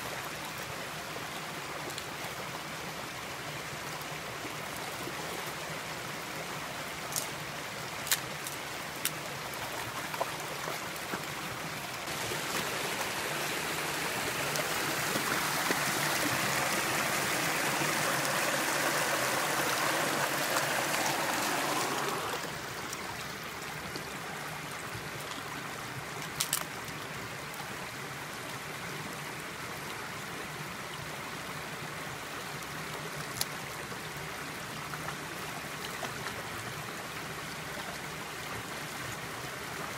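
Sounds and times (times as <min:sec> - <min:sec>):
creek gurgling over rocks: 0:00.0 - 0:39.9.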